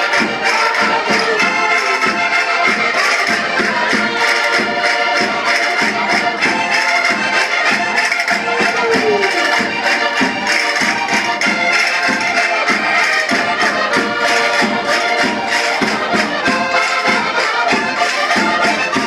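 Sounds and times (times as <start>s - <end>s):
button accordions playing folk tune: 0.0s - 19.0s.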